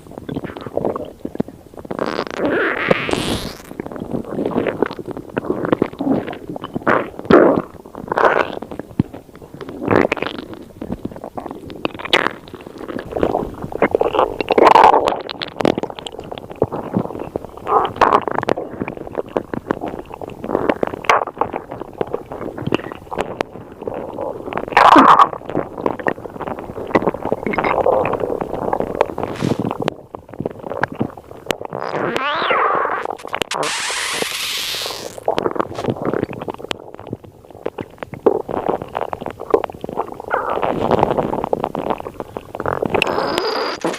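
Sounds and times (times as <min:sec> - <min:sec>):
stomach gurgling and rumbling: 0:00.0 - 0:43.9.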